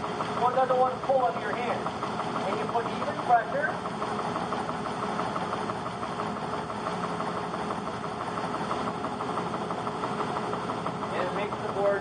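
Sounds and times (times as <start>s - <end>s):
belt sander humming: 0.0s - 12.0s.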